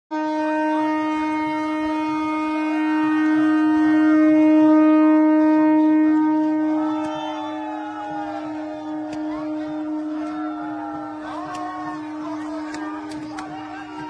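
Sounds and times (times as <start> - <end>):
train horn blast: 0.1 - 14.0
crowd cheering: 0.5 - 14.0.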